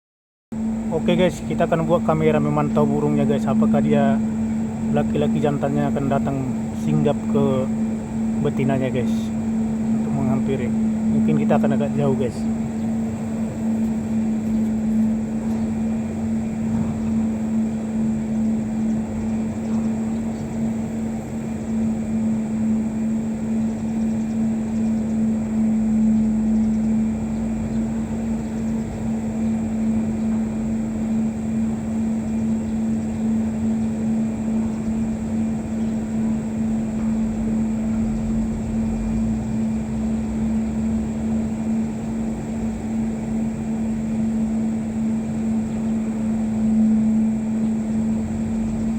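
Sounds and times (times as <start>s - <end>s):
machine drone: 0.6s - 48.9s.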